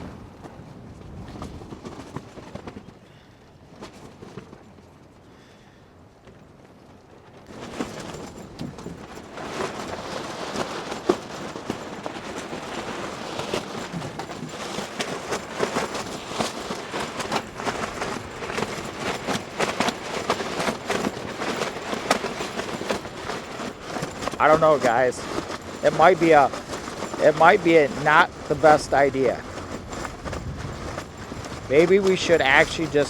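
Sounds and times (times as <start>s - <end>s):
gusty wind buffeting microphone: 0.0s - 3.8s, 7.5s - 33.0s.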